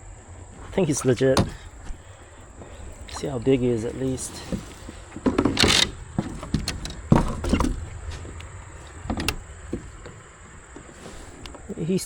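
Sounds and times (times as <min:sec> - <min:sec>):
rustling: 0:00.4 - 0:12.0.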